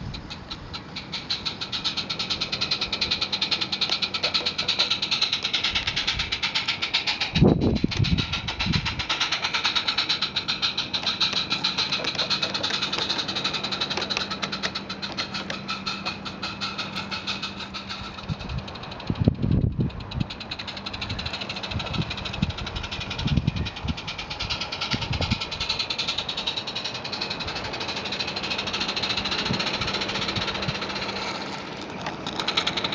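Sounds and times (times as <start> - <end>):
small steam locomotive exhaust beating: 0.0 - 32.9
steady low hum: 0.0 - 32.9.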